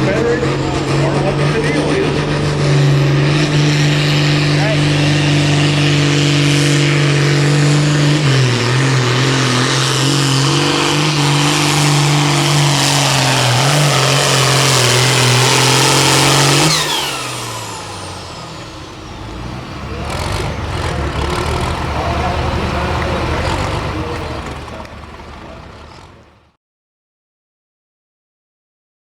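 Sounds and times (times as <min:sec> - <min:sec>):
tractor diesel engine under load: 0:00.0 - 0:26.6.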